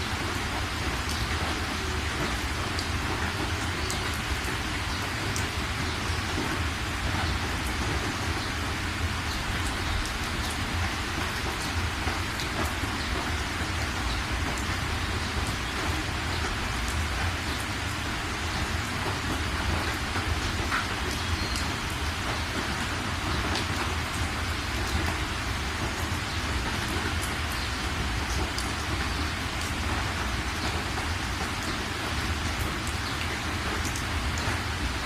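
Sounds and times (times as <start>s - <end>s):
rain hissing: 0.0s - 35.0s
raindrop ticks: 0.2s - 8.6s, 9.3s - 34.9s.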